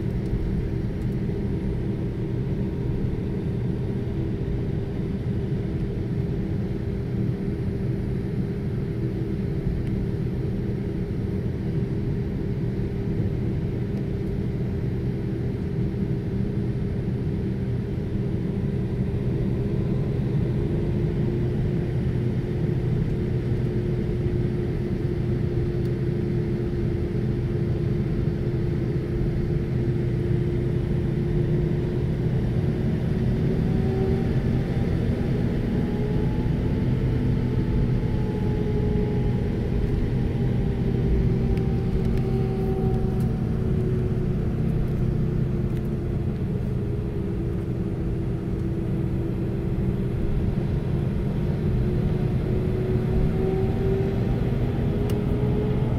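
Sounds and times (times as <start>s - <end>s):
jet engines rumbling and humming: 0.0s - 55.9s.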